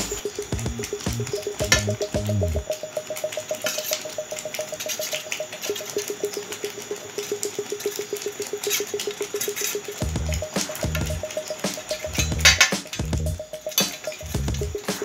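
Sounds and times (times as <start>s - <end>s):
pulsing synth note: 0.0s - 15.0s.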